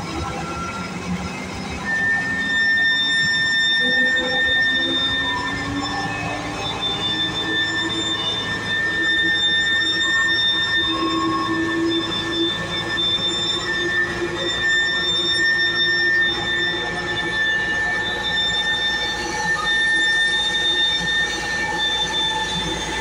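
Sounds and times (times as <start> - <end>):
aircraft high-pitched whine: 0.0 - 23.0.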